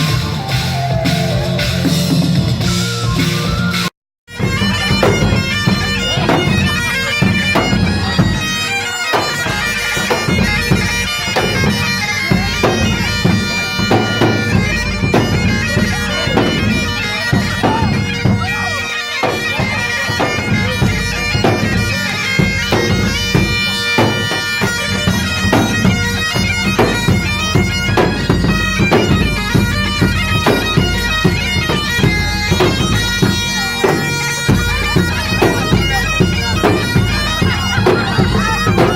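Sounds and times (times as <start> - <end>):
bagpipes playing a tune: 0.0 - 38.9
drumbeat: 0.0 - 38.9.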